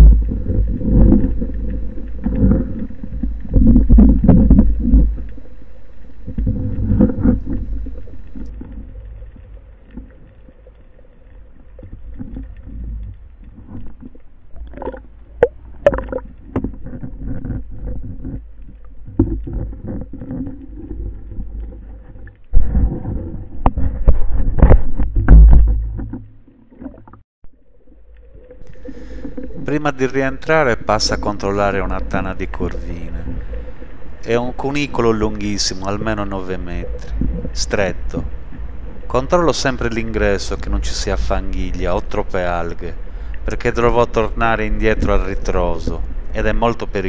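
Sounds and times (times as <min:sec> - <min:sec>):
underwater water rushing rumble: 0:00.0 - 0:47.0.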